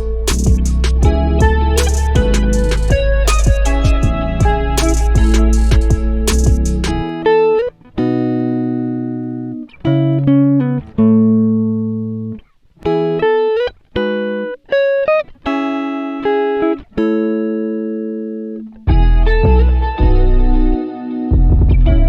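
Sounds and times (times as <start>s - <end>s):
solo guitar plucked notes: 0.0s - 22.0s.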